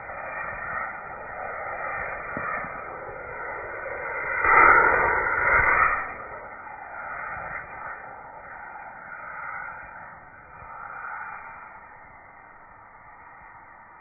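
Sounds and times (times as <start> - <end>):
firework rockets rushing: 0.0 - 12.4.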